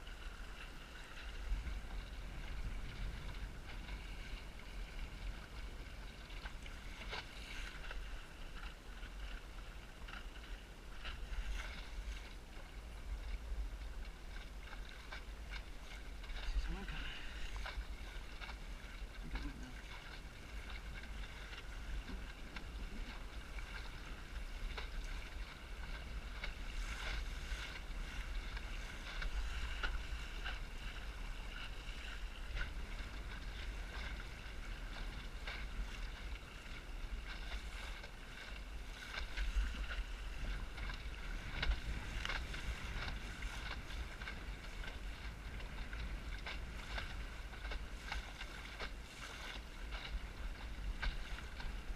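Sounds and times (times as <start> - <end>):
water rushing: 0.0 - 51.9
wind buffeting microphone: 0.0 - 51.9.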